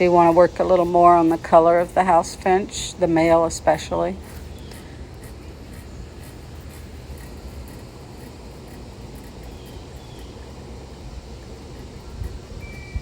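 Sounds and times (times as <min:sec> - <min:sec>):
cicadas buzzing: 0:00.0 - 0:13.0
low outdoor rumble: 0:00.0 - 0:13.0.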